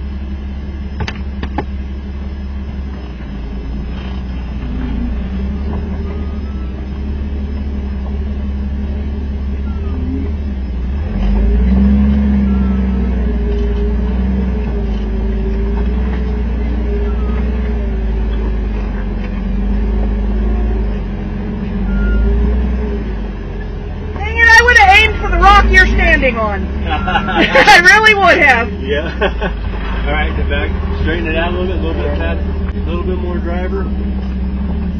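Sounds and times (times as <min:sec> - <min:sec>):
engine deep rumble: 0:00.0 - 0:34.9.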